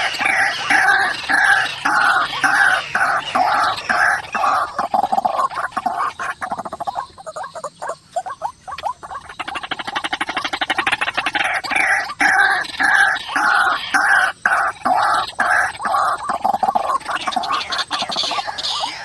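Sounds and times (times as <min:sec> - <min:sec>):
waterhen calling: 0:00.0 - 0:19.0.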